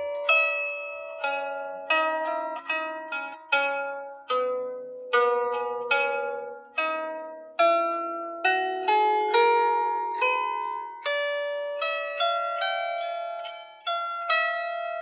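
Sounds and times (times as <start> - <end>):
lyre harp plucked melody: 0.0 - 15.0.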